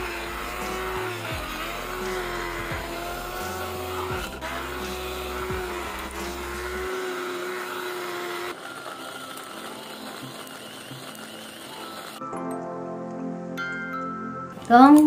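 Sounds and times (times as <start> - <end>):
blender motor whining: 0.0 - 12.2.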